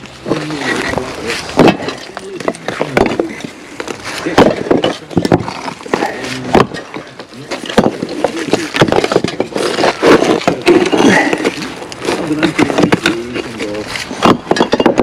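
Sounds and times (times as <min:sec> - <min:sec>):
bricks clacking on bricks: 0:00.0 - 0:15.0.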